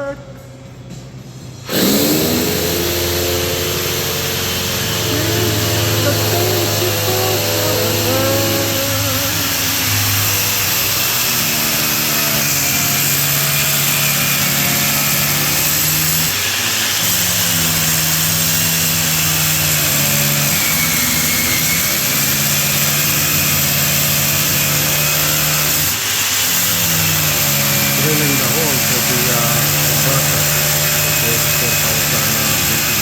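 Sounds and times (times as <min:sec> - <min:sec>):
electric drill boring through wall: 0:01.6 - 0:33.0.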